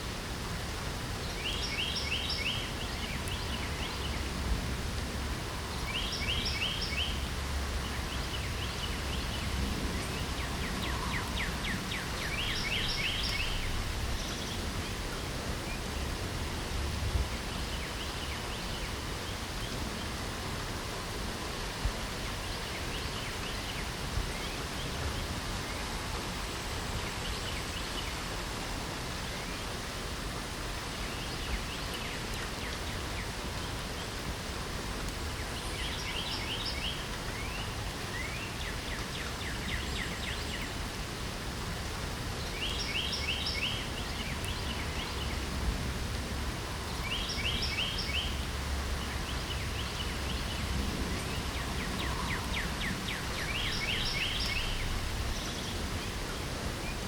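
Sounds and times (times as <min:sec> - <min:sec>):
light rain hissing: 0:00.0 - 0:57.0
songbird singing: 0:01.1 - 0:28.4, 0:30.6 - 0:57.0.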